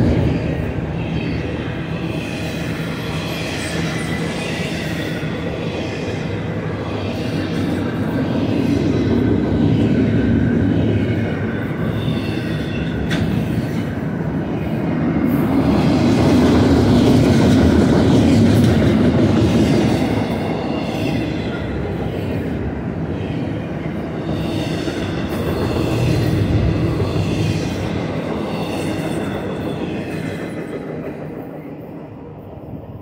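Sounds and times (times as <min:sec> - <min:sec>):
train rumbling and rattling past: 0:00.0 - 0:33.0.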